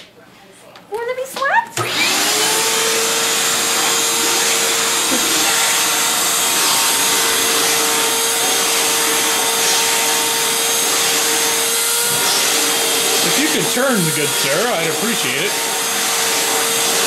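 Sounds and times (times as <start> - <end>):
vacuum cleaner running: 1.8 - 17.0.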